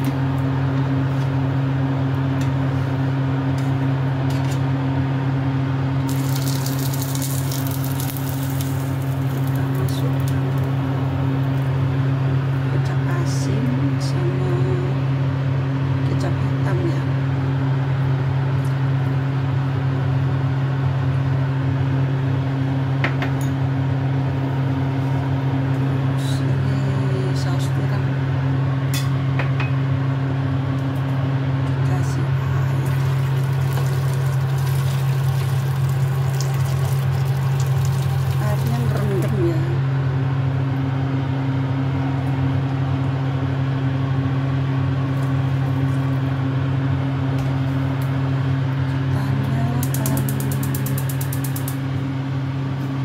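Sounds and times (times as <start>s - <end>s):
fan motor hum and hiss: 0.0s - 53.0s.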